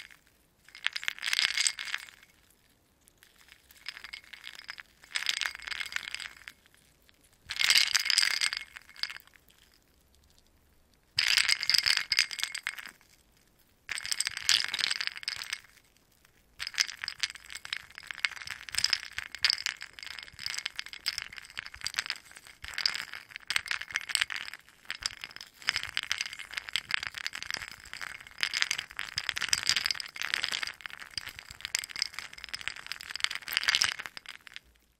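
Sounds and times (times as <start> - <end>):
ice cubes rattling and clinking: 0.7 - 2.4, 3.3 - 6.6, 7.5 - 9.4, 11.2 - 13.1, 13.9 - 15.8, 16.6 - 34.8.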